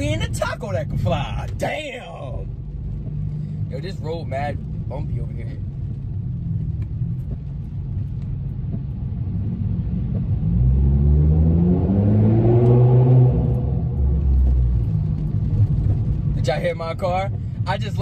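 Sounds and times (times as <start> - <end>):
car engine revving: 0.0 - 18.0
low road rumble: 0.0 - 18.0.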